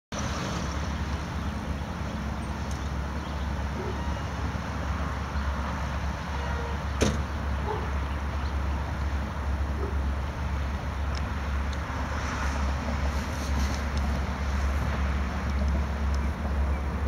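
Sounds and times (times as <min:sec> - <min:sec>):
distant road traffic: 0:00.1 - 0:17.0
low outdoor rumble: 0:00.2 - 0:17.0.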